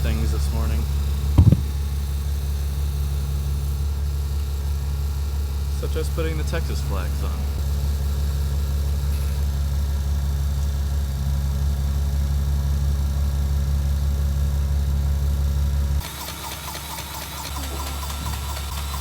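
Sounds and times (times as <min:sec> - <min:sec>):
quieter engine with light ticking: 0:00.0 - 0:19.0
vehicle engine idling: 0:00.0 - 0:19.0.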